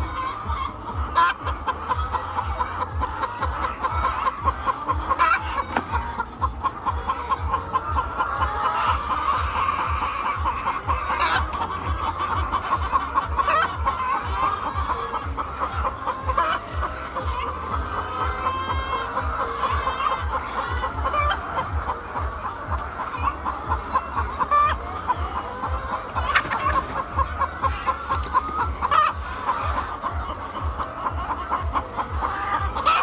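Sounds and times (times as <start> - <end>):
hens clucking: 0.0 - 33.0.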